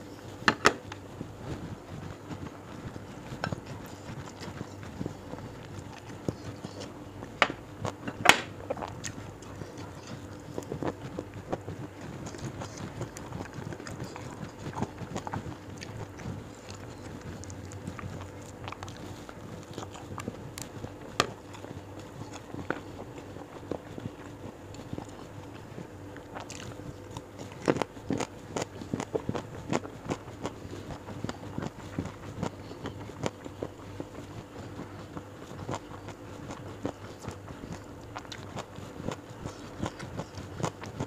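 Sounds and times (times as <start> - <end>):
chewing and mouth sounds: 0.3 - 41.0.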